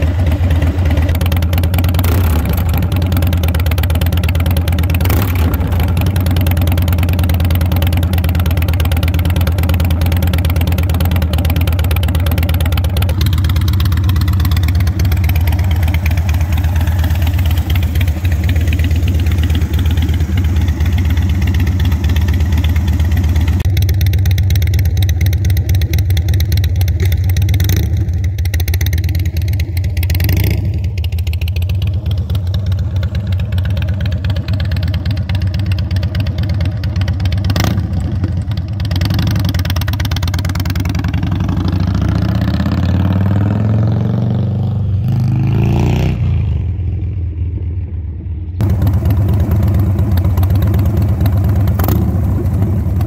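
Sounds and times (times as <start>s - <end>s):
motorcycle engine idling: 0.0s - 41.9s, 48.1s - 53.0s
motorcycle pulling away: 0.0s - 46.8s, 48.6s - 53.0s.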